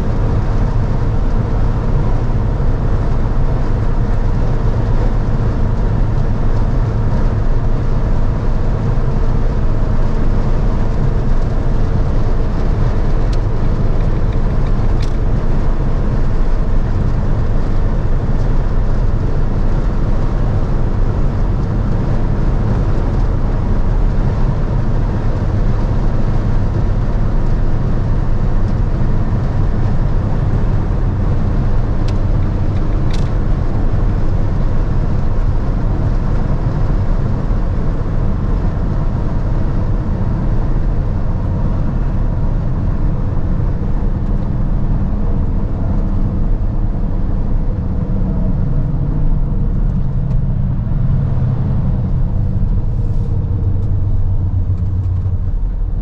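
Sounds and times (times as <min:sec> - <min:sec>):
diesel engine droning: 0:00.0 - 0:56.0
wind and tyre noise: 0:00.0 - 0:56.0.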